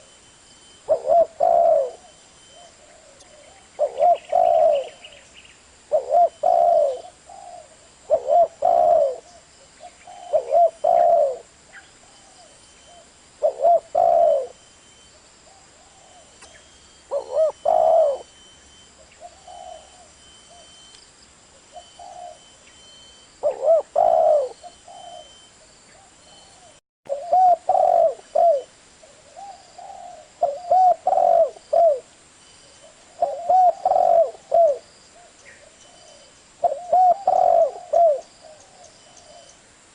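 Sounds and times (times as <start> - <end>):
dove cooing: 0.8 - 5.2, 5.9 - 14.7, 15.4 - 20.8, 21.6 - 22.7, 23.4 - 32.1, 32.7 - 39.6.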